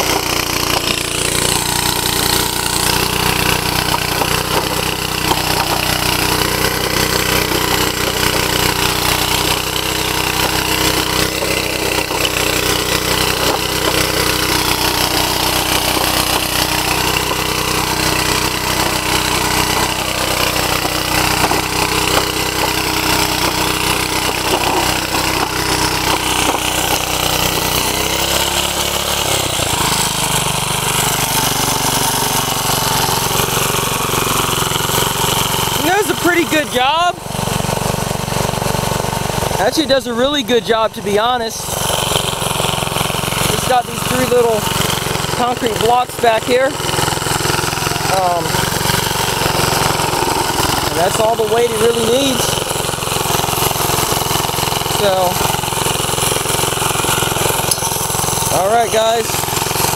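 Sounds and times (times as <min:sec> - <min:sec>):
small gasoline engine under load: 0:00.0 - 0:59.9.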